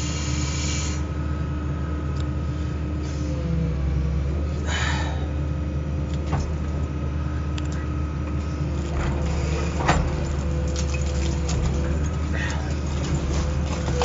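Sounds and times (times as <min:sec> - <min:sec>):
excavator diesel engine running: 0:00.0 - 0:14.0
hydraulic whine: 0:00.0 - 0:14.0.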